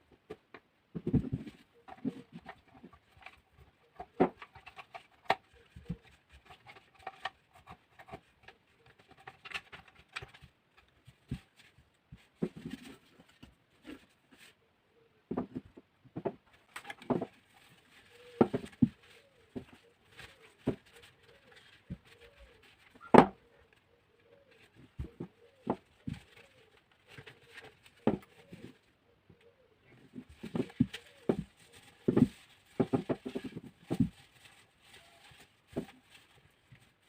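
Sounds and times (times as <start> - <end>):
clicks and knocks of handling: 0.1 - 14.6, 15.3 - 37.0.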